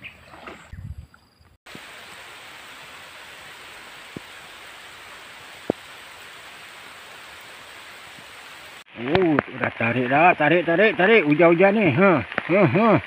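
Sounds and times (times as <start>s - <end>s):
heavy rain falling: 1.7s - 13.0s.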